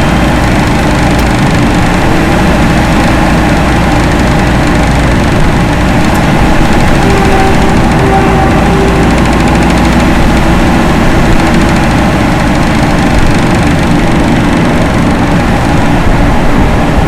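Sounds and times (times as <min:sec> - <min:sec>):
faint hum: 0:00.0 - 0:16.7
exhaust fan droning: 0:00.0 - 0:17.0.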